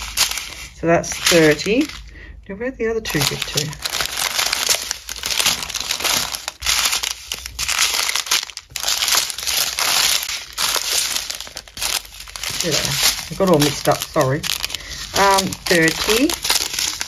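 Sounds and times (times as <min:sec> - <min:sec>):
plastic bags crinkling: 0:00.0 - 0:02.3, 0:03.0 - 0:17.0.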